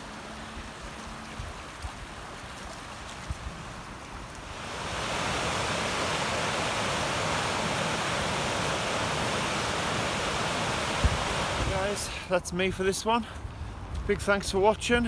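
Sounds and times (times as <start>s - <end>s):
water rushing over a weir: 0.0s - 12.2s.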